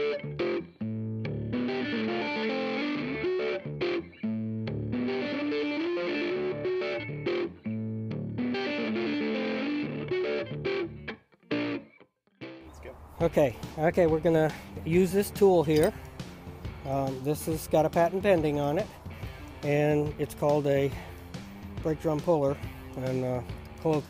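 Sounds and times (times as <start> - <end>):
distorted electric guitar music: 0.0 - 12.6, 13.8 - 24.0.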